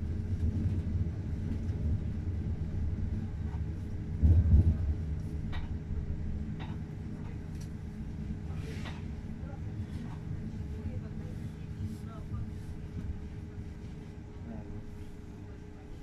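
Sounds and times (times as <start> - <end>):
train rumble from inside carriage: 0.0 - 16.0.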